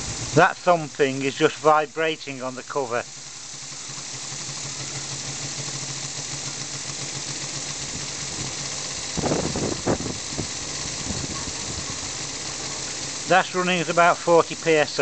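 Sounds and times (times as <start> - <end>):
small engine humming and hissing: 0.0 - 15.0.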